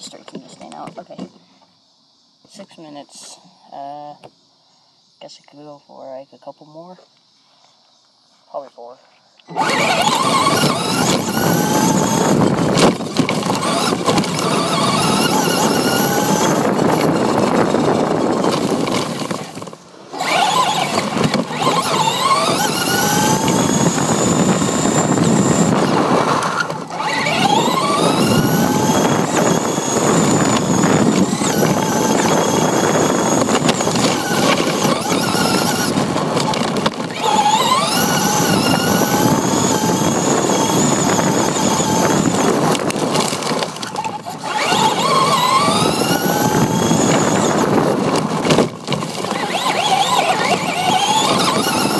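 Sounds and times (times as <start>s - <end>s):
electric motor and gears whining: 9.4s - 51.9s
tyres rushing on asphalt: 9.6s - 51.9s.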